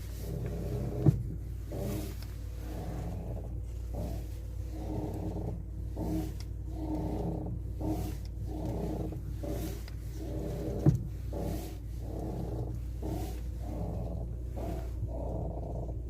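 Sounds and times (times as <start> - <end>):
steady low hum: 0.0 - 16.0
suspension creaking: 0.0 - 16.0.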